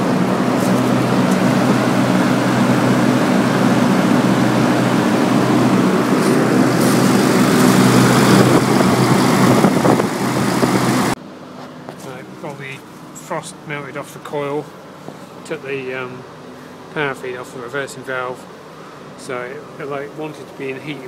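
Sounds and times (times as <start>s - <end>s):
compressor hum: 0.0s - 21.0s
fan air rushing: 0.0s - 21.0s.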